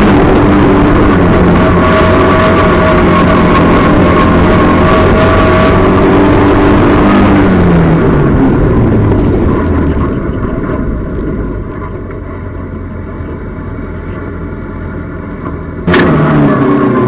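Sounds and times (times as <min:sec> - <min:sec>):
race car engine revving and idling: 0:00.0 - 0:17.0.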